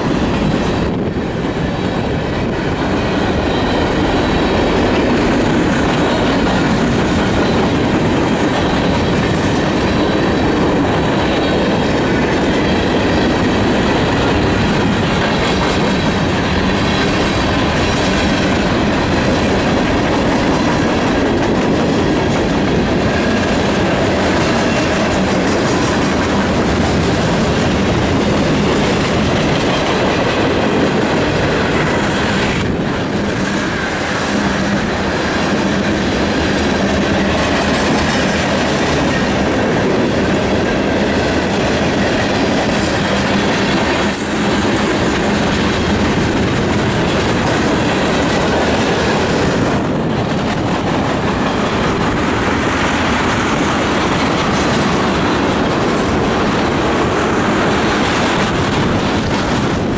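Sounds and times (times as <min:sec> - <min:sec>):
freight train wheels rumbling: 0:00.0 - 0:59.9
wheels clacking over rail joints: 0:00.0 - 0:59.9.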